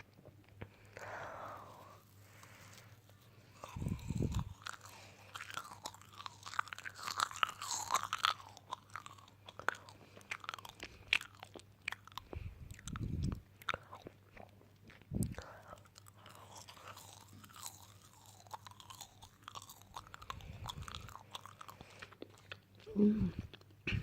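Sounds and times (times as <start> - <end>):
crunching and chewing: 0.0 - 24.0.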